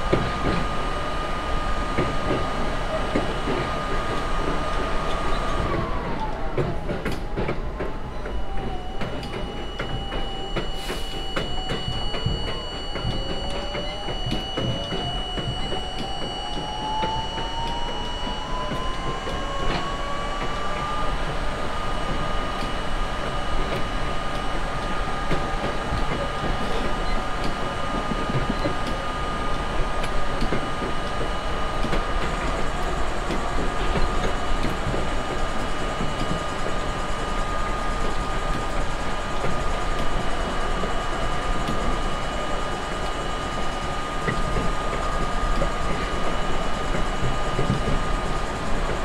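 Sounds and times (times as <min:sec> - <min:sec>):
subway train motor whine: 0:00.0 - 0:49.0
train wheels rumbling and clattering: 0:00.0 - 0:49.0.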